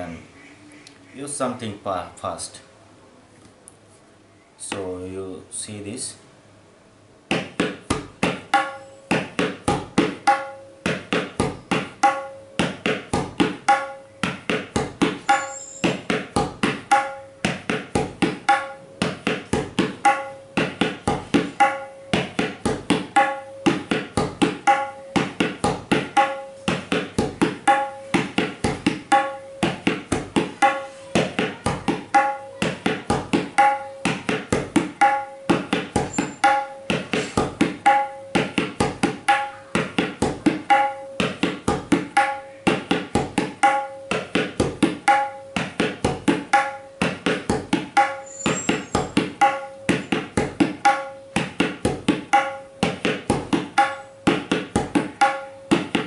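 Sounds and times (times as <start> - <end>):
tabla drumming: 7.3 - 56.0.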